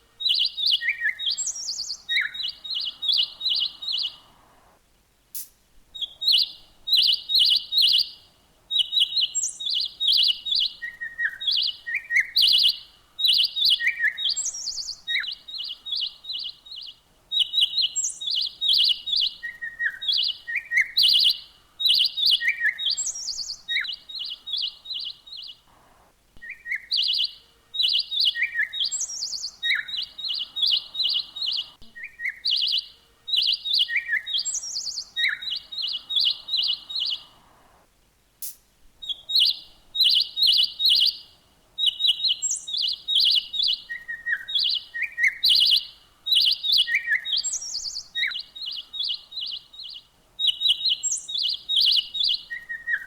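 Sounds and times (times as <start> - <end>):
small songbirds chirping: 0.0 - 53.0.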